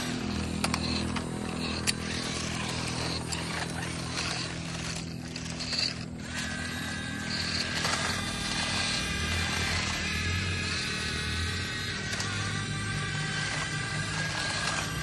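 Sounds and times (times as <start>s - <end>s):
higher motor whine: 0.0s - 15.0s
small electric motors whirring: 0.0s - 15.0s.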